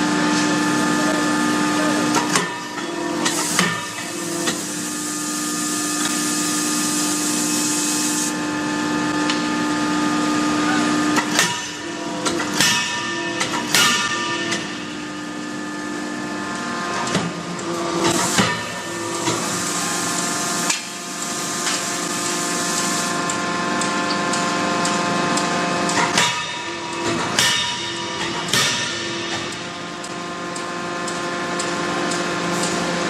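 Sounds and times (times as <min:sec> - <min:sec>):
mechanical hum with whine: 0:00.0 - 0:33.0.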